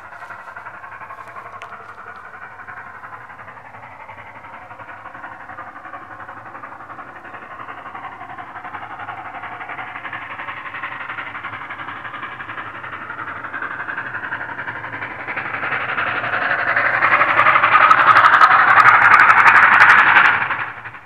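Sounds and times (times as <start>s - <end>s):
steam locomotive exhaust beats: 0.0s - 21.0s.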